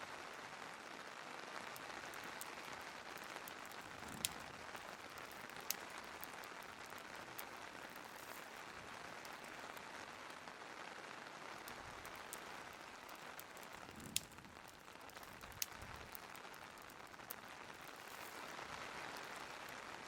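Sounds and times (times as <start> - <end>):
rain hiss: 0.0 - 20.0
wood fire crackling: 0.0 - 20.0
faint ticks: 1.7 - 9.8, 11.6 - 19.7.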